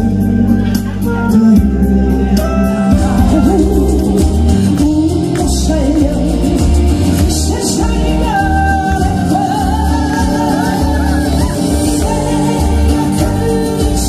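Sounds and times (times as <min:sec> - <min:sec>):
backing music with heavy bass: 0:00.0 - 0:14.0
person singing: 0:00.0 - 0:14.0.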